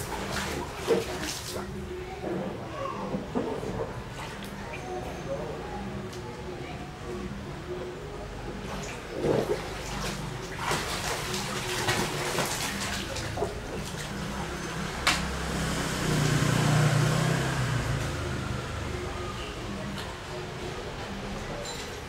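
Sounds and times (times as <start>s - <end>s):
water splashing in a paddling pool: 0.0s - 5.6s, 7.7s - 22.0s.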